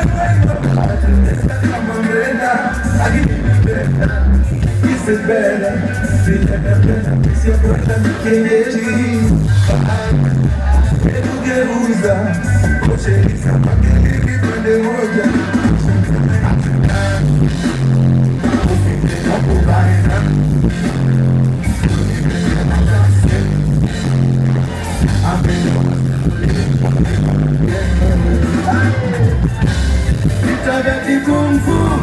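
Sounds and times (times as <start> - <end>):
bass line: 0.0 - 32.0
drums: 0.0 - 32.0
guitar: 0.0 - 32.0
person singing: 0.0 - 32.0.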